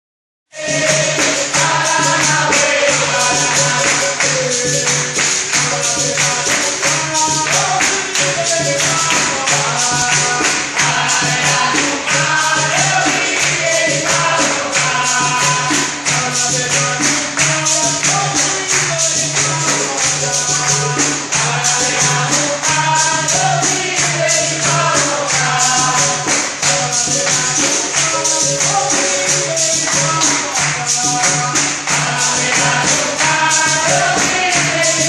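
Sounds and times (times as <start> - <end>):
group singing: 0.5 - 35.0
jingling tambourine: 0.5 - 35.0
people clapping a rhythm: 0.5 - 35.0.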